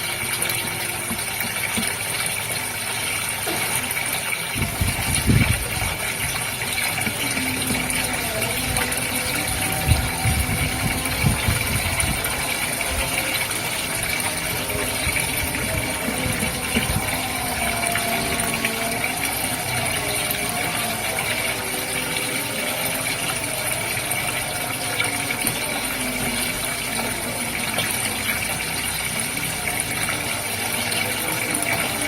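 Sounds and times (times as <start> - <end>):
aquarium pump humming: 0.0 - 32.0
water bubbling and gurgling: 0.0 - 32.0.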